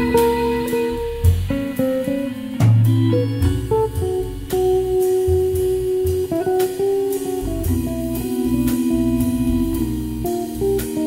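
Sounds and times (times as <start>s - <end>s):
jazz trio playing live: 0.0s - 11.0s
sharp cymbal strikes: 0.0s - 11.0s.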